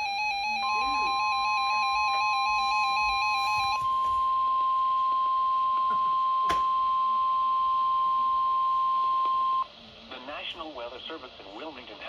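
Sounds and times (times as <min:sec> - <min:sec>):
steady electronic alarm tone: 0:00.0 - 0:09.7.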